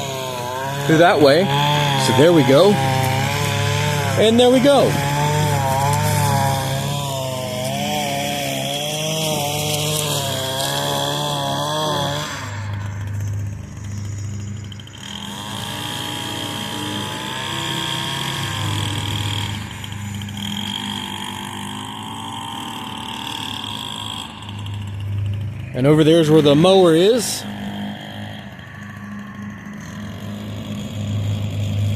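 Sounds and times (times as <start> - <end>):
riding mower engine: 0.0 - 31.9
string trimmer engine running: 0.0 - 31.9.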